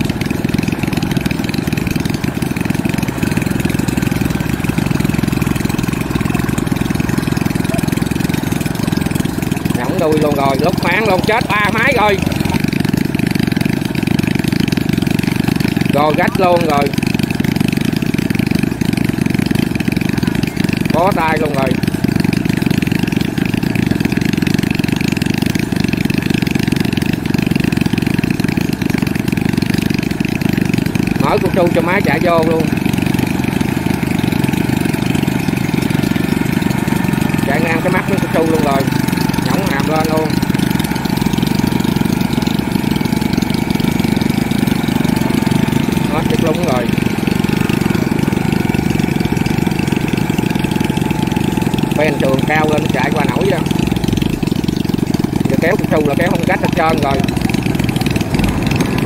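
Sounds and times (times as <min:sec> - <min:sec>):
harvester engine chugging: 0:00.0 - 0:59.0.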